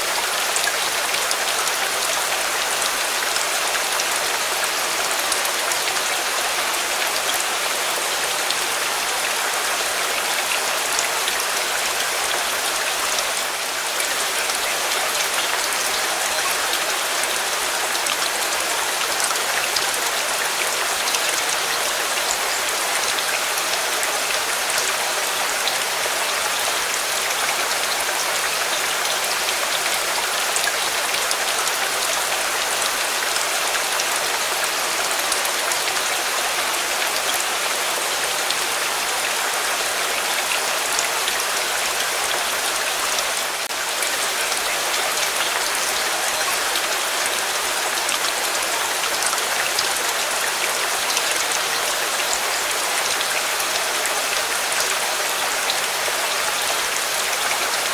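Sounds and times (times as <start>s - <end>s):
rain pattering on surface: 0.0s - 57.9s.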